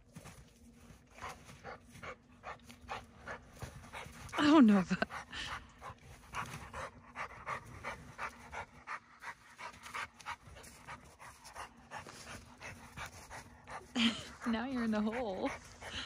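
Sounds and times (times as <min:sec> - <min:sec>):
dog panting: 0:00.2 - 0:16.0.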